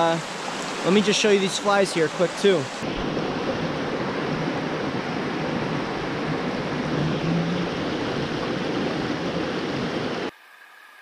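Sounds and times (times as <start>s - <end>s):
stream water rushing: 0.0s - 10.3s.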